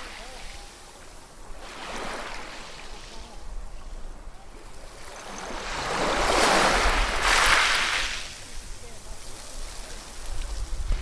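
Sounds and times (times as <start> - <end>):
ocean waves crashing: 0.0 - 10.6.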